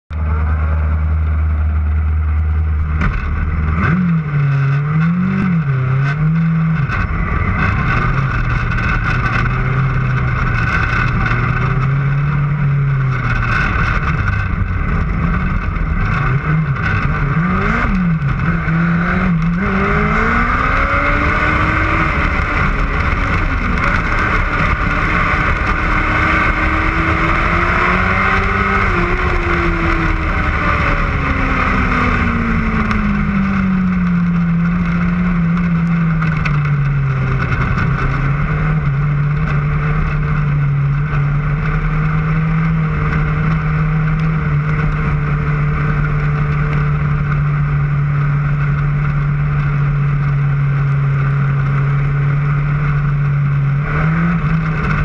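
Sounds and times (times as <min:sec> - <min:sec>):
race car engine revving: 0:00.1 - 0:55.0.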